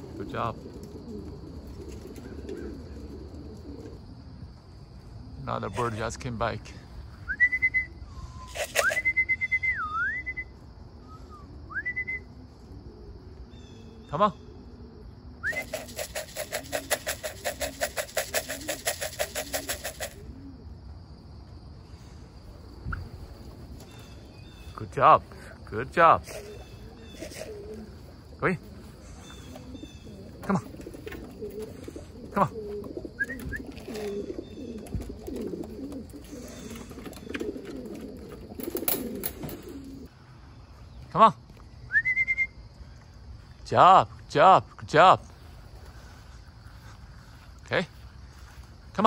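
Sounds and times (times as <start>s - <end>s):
pigeons cooing: 0.0s - 40.2s, 45.2s - 48.9s.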